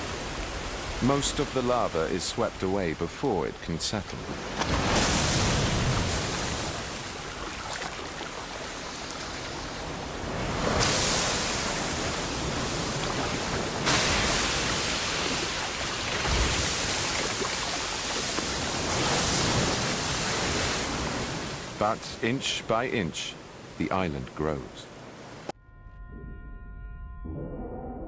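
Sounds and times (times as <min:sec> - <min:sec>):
ocean surf breaking: 0:00.0 - 0:25.5.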